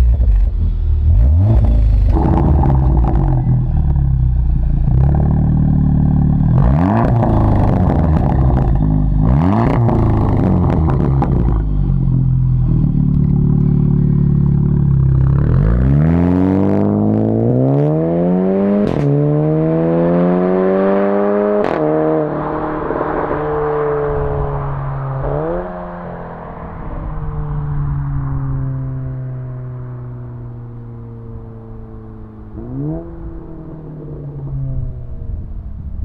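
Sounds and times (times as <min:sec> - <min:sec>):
car engine revving and idling: 0:00.0 - 0:36.0.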